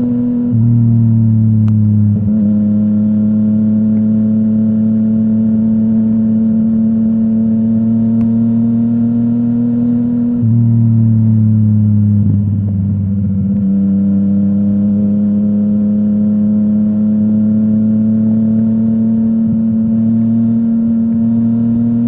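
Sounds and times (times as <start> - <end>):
motorcycle engine at steady revs: 0.0 - 22.0.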